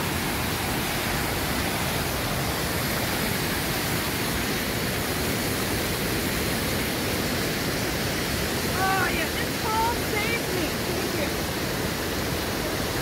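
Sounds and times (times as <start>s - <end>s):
stream rapids rushing over rocks: 0.0s - 13.0s.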